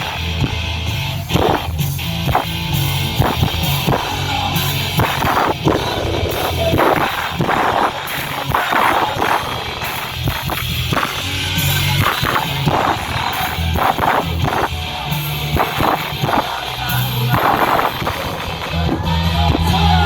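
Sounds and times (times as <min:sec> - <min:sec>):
drum kit hitting: 0:00.0 - 0:20.0
rock band playing live: 0:00.0 - 0:20.0.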